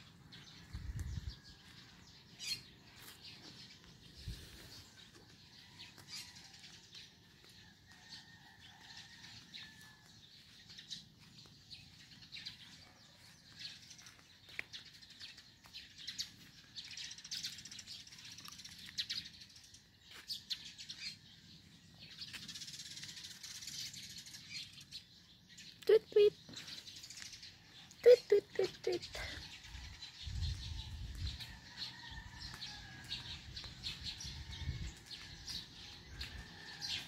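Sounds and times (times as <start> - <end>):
birds chirping and twittering: 0.0 - 37.0.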